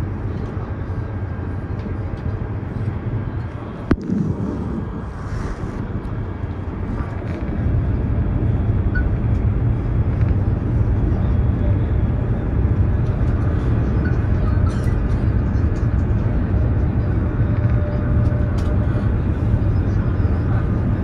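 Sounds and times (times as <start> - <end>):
train cabin rumble and rush: 0.0 - 21.0.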